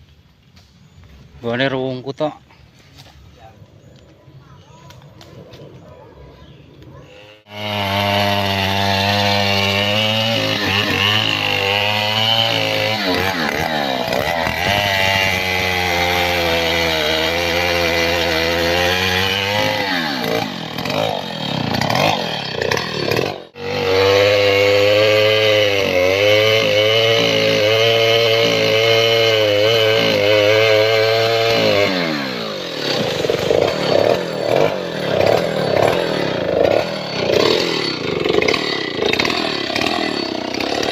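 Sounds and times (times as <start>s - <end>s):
chainsaw cutting wood: 7.1s - 40.9s.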